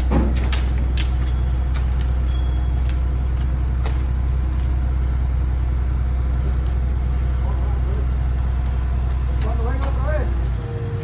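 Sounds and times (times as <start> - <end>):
heavy engine droning: 0.0 - 11.0.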